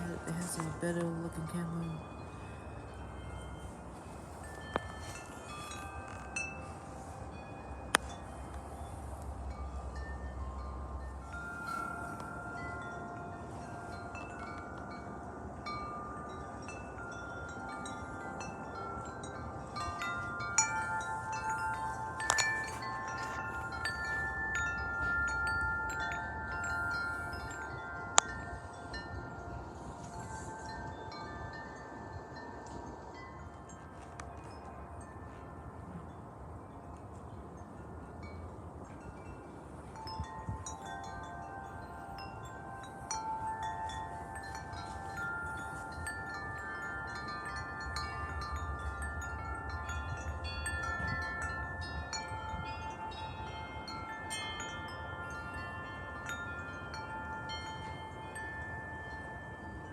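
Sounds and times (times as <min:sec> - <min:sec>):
low wind rumble: 0:00.0 - 0:59.9
wind chimes ringing: 0:00.0 - 0:59.9.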